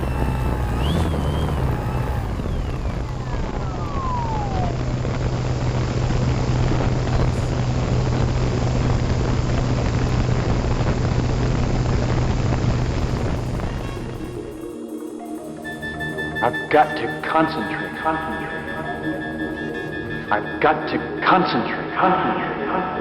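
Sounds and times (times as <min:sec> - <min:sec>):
electric motor and propeller humming: 0:00.0 - 0:21.1
high whine falling in pitch: 0:00.0 - 0:23.0.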